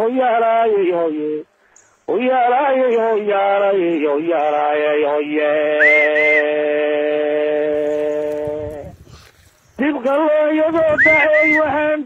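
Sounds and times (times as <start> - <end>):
man chanting: 0.0 - 1.5, 2.1 - 9.0, 9.8 - 12.0.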